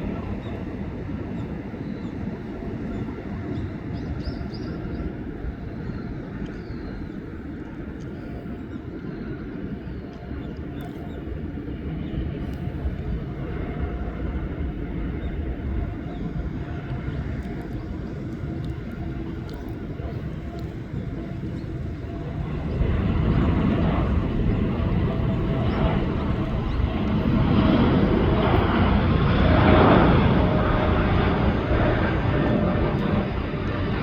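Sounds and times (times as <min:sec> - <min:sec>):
jet engines at takeoff power: 0:00.0 - 0:34.0.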